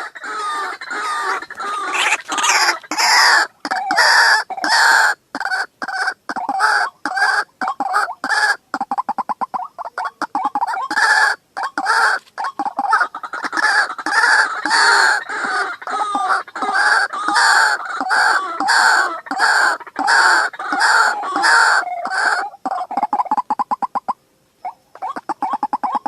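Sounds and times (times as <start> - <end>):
bird making loud harsh calls: 0.0 - 26.0.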